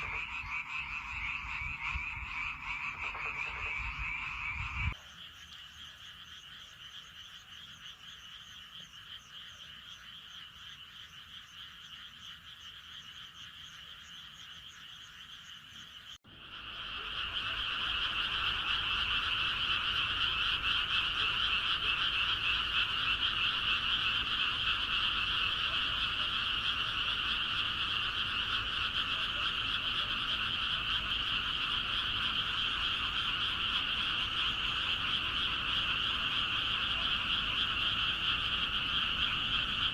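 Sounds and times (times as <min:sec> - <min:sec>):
frog chorus: 0:00.0 - 0:39.9.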